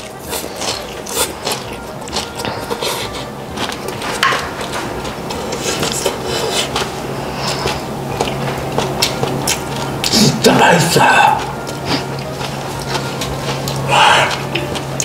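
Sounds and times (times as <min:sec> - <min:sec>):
light background music: 0:00.0 - 0:15.0.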